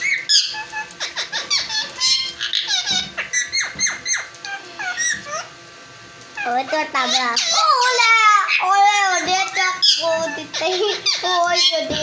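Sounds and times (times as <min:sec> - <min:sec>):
parrot chirping and squeaking: 0:00.0 - 0:05.6, 0:06.3 - 0:12.0.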